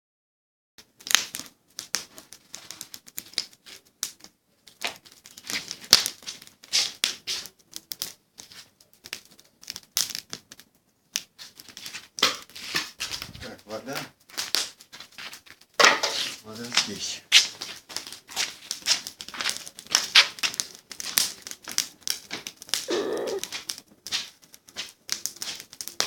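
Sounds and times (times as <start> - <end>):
campfire crackling: 0.8 - 26.0
fire snaps and pops: 0.8 - 26.0.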